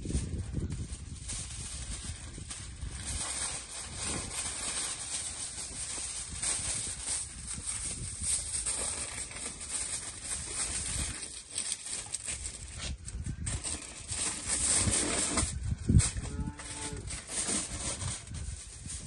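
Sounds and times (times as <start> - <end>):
aluminium foil crinkling: 0.0 - 19.0.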